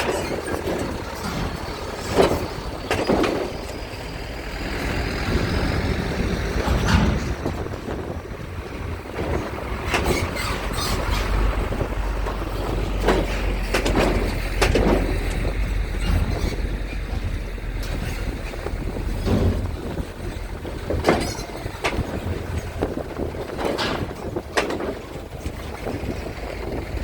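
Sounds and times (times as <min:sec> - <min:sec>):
sharp knocks and clatter: 0:00.0 - 0:04.0, 0:06.5 - 0:08.0, 0:09.0 - 0:26.5
ferry engines rumbling: 0:00.0 - 0:27.0
strong wind: 0:00.0 - 0:27.0.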